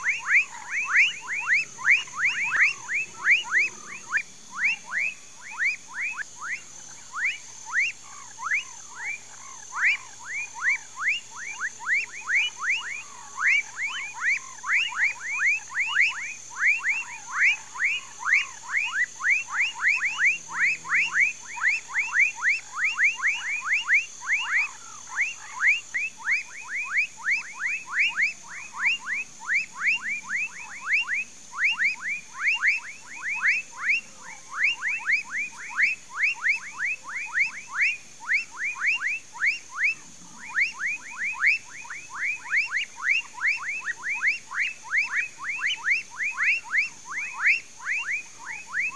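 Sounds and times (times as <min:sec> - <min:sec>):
frogs calling in chorus: 0:00.0 - 0:48.9.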